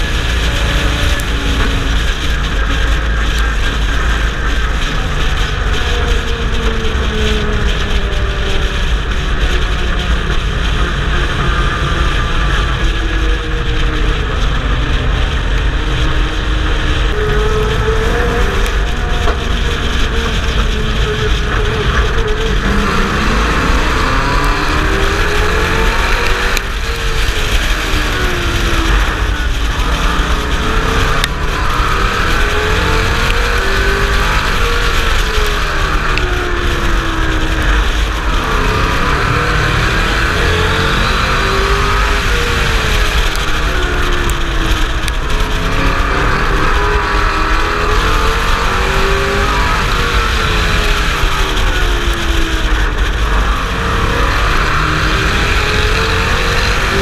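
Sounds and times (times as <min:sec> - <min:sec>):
racing truck engine revving: 0:00.0 - 0:57.0.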